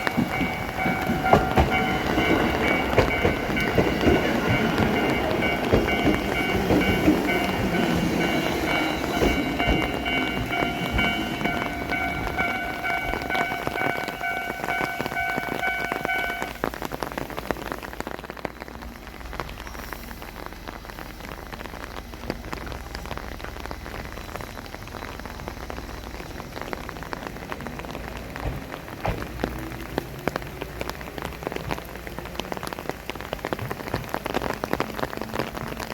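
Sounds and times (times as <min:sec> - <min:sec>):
loud water drips: 0:00.0 - 0:35.9
steady rain falling: 0:00.0 - 0:35.9.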